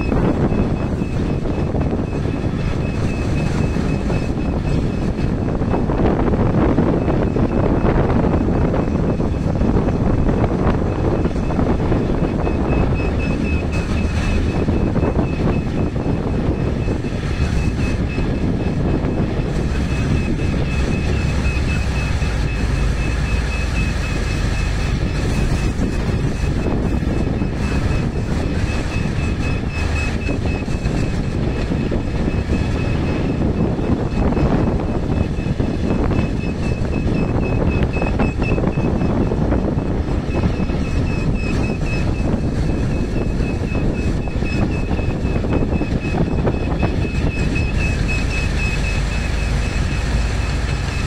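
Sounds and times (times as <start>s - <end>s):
high whine: 0.0s - 51.0s
wheel loader diesel engine: 0.0s - 51.0s.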